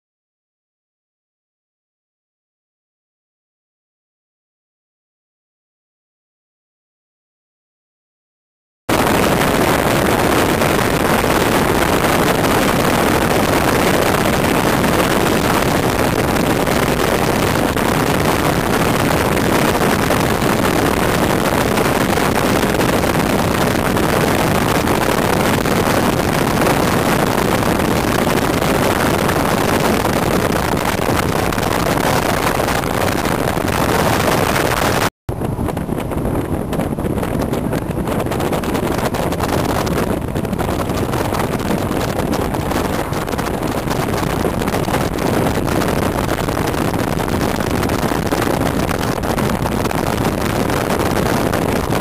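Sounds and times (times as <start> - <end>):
tyre and wind noise inside car: 8.9 - 52.0.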